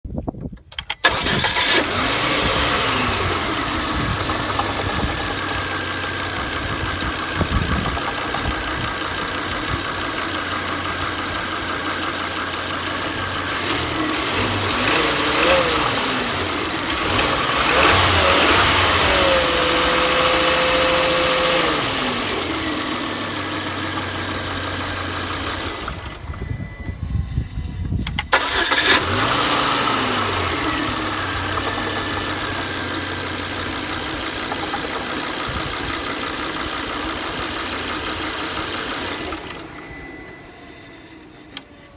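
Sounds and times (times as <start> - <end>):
car engine starting: 0.8 - 41.9
car engine revving: 1.0 - 26.4, 28.3 - 39.8.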